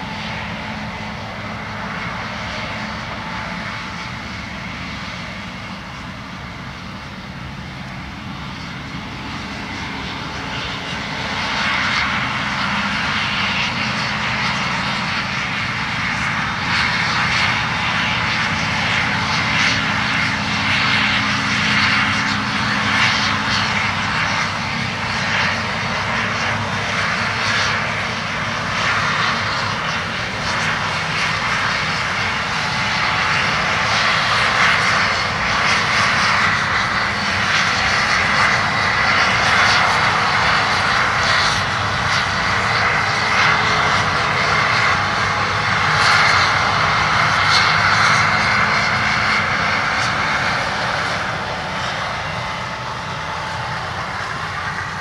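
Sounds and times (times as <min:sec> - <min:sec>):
combine engine drone: 0:00.0 - 0:55.0.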